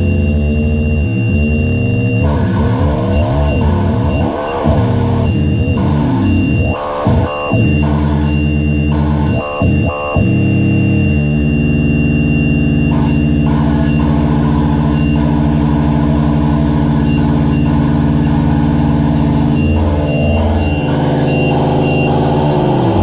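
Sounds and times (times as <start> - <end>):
low electronic drone: 0.0 - 23.0
faint high pulsing tone: 3.1 - 23.0.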